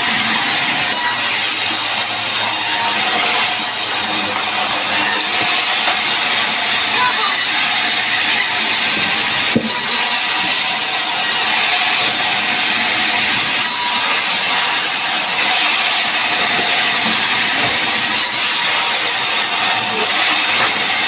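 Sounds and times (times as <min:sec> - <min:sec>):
sawmill saw cutting log: 0:00.0 - 0:21.0.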